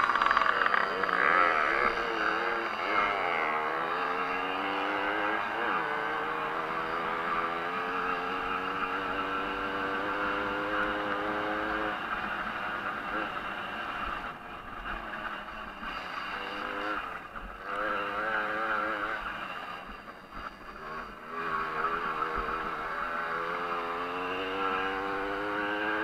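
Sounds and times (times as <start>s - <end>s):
two-stroke moped engine revving: 0.0s - 26.0s.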